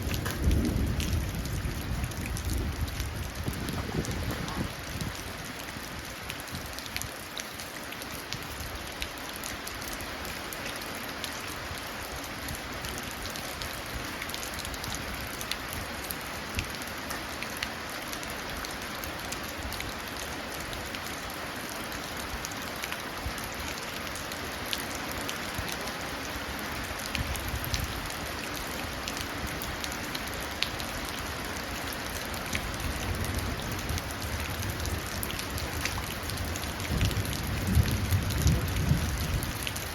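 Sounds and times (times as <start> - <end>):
rain splashing into a puddle: 0.0 - 39.9.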